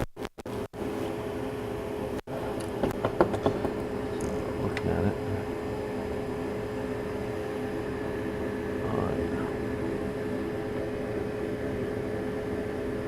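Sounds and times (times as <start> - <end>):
fan running steadily: 0.5 - 13.0.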